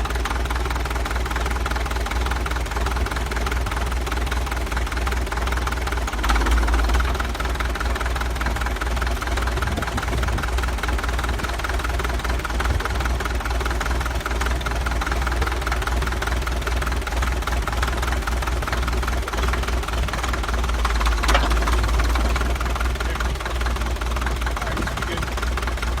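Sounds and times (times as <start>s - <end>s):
bulldozer diesel engine knocking: 0.0s - 26.0s.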